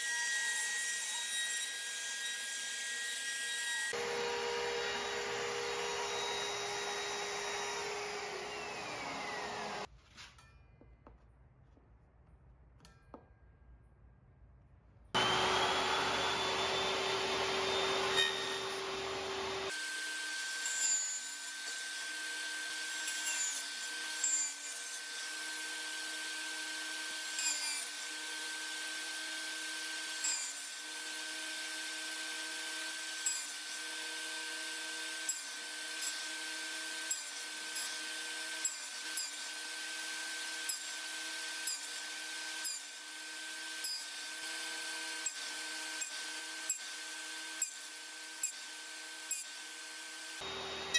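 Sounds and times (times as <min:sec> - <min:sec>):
saw blade cutting wood: 0:00.0 - 0:09.9, 0:15.2 - 0:50.9
table saw whining: 0:00.0 - 0:09.9, 0:15.2 - 0:50.9.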